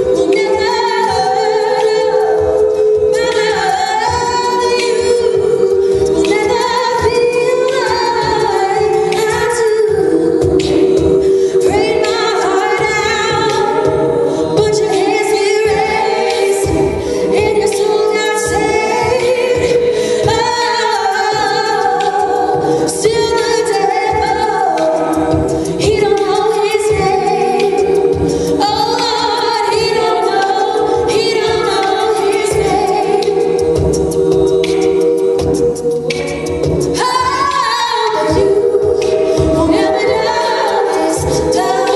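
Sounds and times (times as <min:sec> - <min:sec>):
women singing a cappella: 0:00.0 - 0:41.9.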